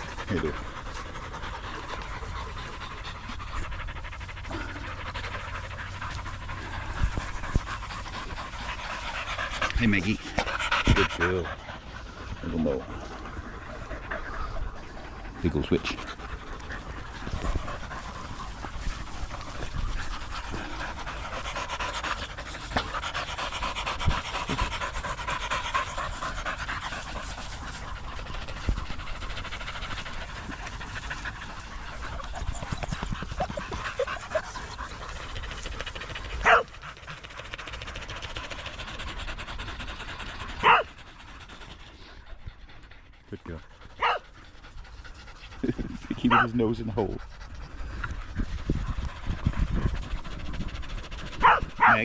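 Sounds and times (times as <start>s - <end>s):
dogs panting: 0.0s - 52.0s.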